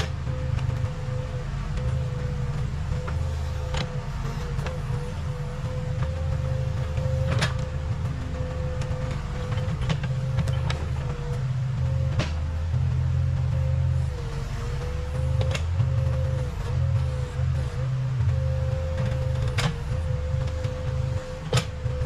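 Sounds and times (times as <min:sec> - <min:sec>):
backhoe diesel engine running: 0:00.0 - 0:22.0
steady whine: 0:00.0 - 0:22.0.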